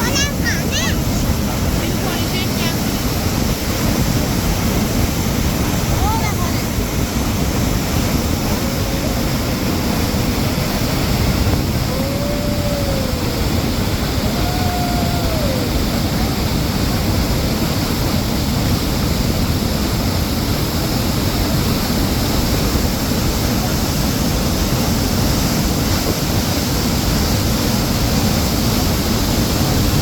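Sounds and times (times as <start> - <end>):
rushing spring water: 0.0 - 30.0.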